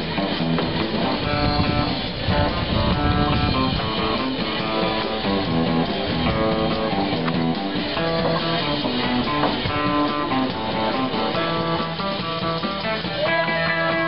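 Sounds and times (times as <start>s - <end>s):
guitar-led rock instrumental: 0.0s - 14.0s.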